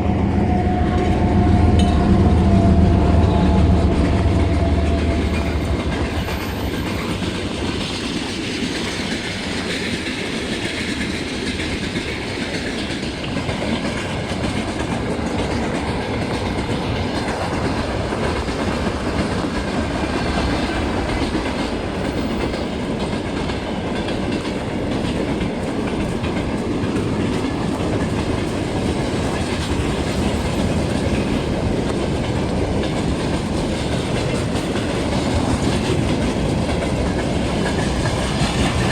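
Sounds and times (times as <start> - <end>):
freight train rumbling over bridge: 0.0 - 38.9.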